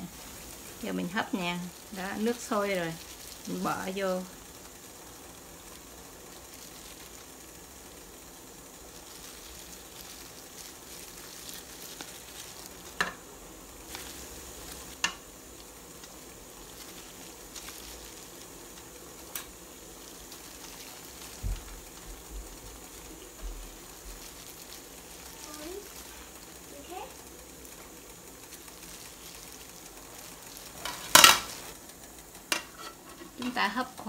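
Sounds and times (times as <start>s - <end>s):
water boiling with steady hiss: 0.0s - 34.0s.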